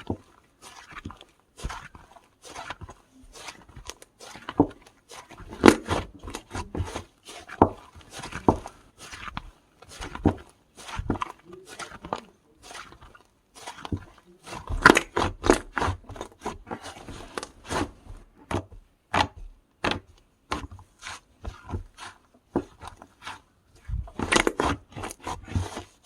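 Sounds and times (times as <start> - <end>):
hands squishing slime: 0.0 - 26.0.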